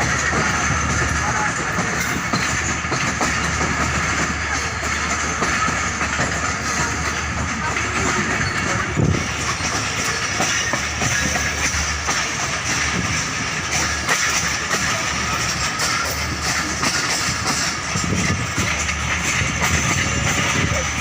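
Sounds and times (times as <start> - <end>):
train rumbling and rattling: 0.0 - 21.0
wheels clicking on track: 0.0 - 21.0.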